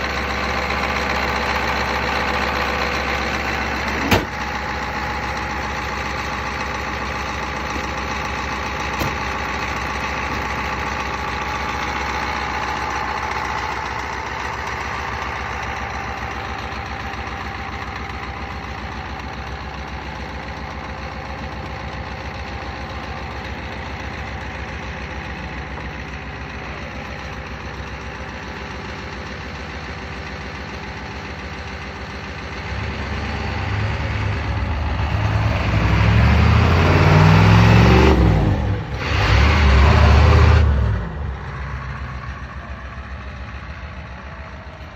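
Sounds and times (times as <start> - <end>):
vehicle engine idling: 0.0 - 44.9.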